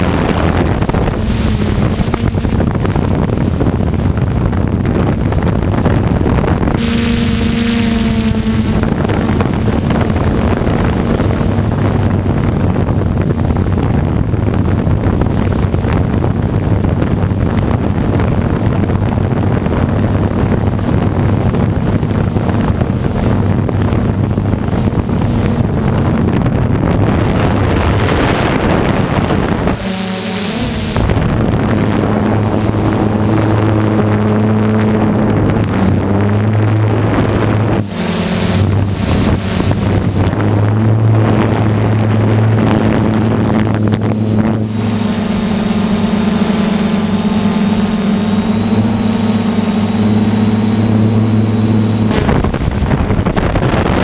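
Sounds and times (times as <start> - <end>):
drone motors buzzing: 0.0 - 54.0
wind noise on microphone: 0.0 - 54.0.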